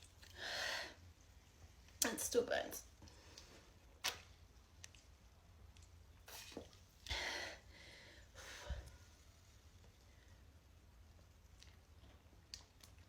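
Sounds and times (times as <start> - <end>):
faint low room hum: 0.0 - 13.0.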